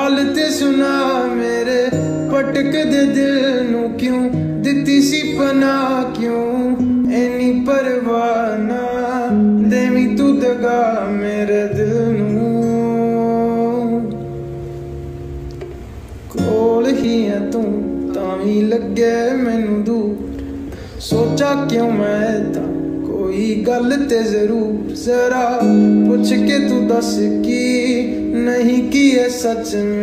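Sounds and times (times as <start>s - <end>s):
acoustic guitar song with singing: 0.0s - 30.0s.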